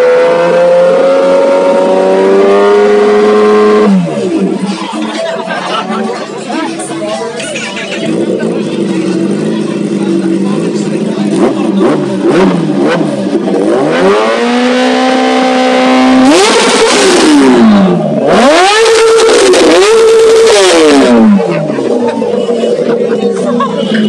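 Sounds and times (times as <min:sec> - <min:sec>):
motorcycle engine revving: 0:00.0 - 0:05.1, 0:07.9 - 0:24.0.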